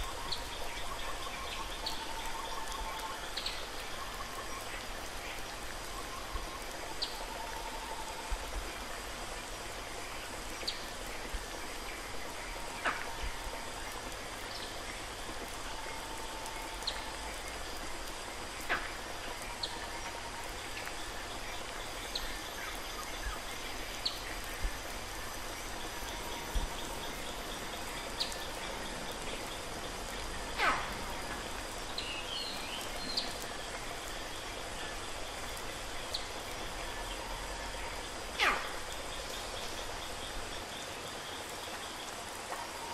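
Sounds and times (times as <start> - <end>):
running water hiss: 0.0 - 42.9.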